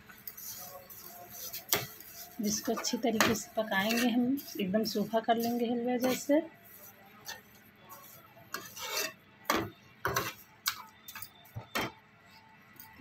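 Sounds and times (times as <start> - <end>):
spoon scraping a pan: 0.1 - 12.0.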